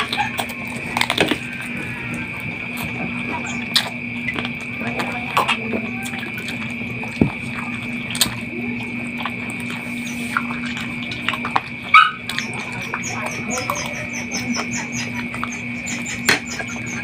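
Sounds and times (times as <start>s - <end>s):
faint high tone hum: 0.0s - 17.0s
wet chewing and lip smacks: 2.7s - 17.0s.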